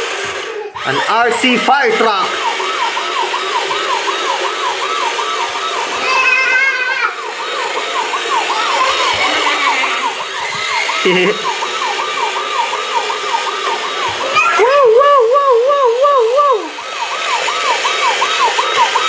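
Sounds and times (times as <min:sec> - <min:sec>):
toy electronic siren wailing: 0:00.0 - 0:19.0.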